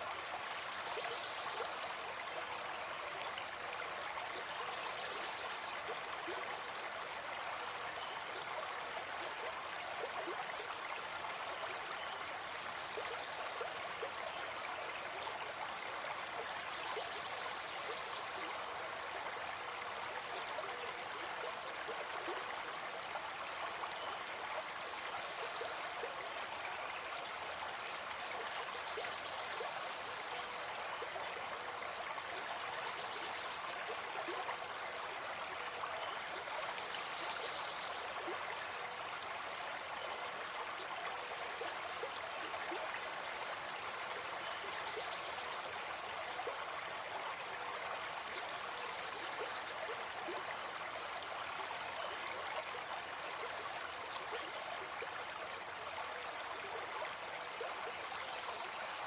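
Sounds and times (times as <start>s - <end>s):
forest stream flowing: 0.0s - 59.0s.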